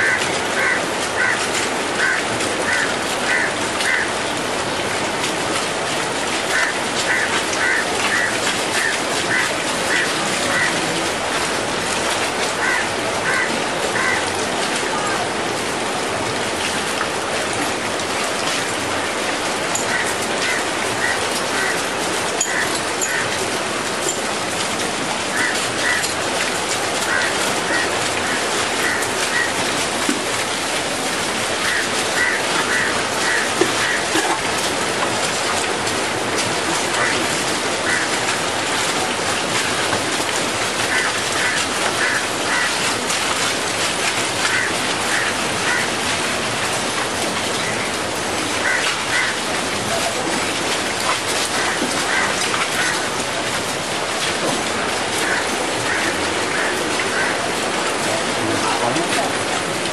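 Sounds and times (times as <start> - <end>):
rain falling on wet ground: 0.0 - 59.9.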